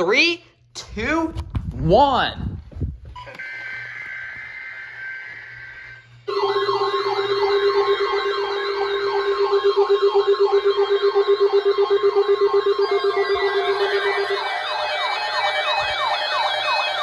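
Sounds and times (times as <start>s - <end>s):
warbling electronic alert siren: 2.4s - 17.0s.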